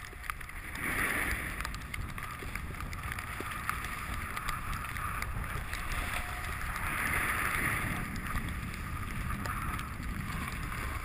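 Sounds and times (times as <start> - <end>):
gear sliding over snow: 0.0 - 11.0
wind buffeting microphone: 0.0 - 11.0.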